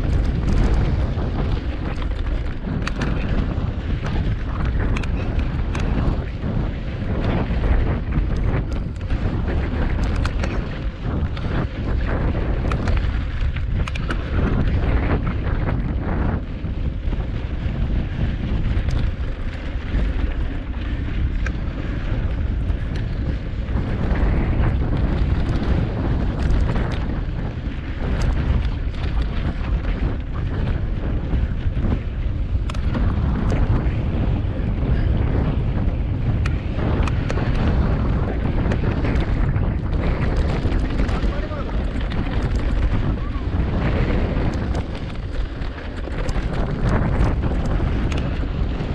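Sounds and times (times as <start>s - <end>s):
bike rattling and clicking: 0.0s - 48.9s
tyre noise on dirt trail: 0.0s - 48.9s
wind buffeting microphone: 0.0s - 48.9s.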